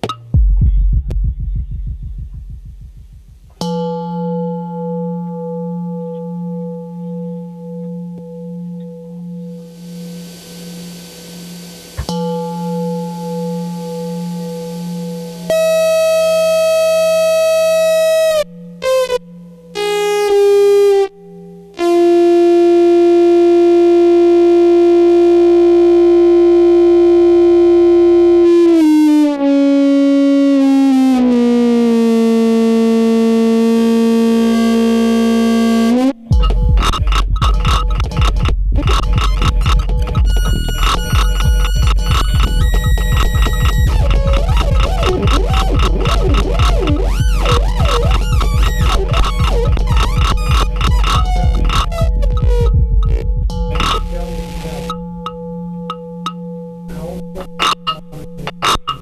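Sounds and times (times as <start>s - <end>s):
modular synthesizer music: 0.0s - 59.0s.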